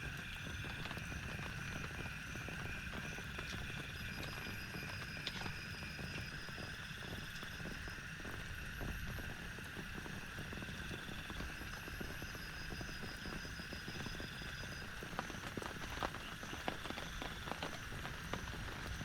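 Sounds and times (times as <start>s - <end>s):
raindrops tapping a surface: 0.1s - 19.0s.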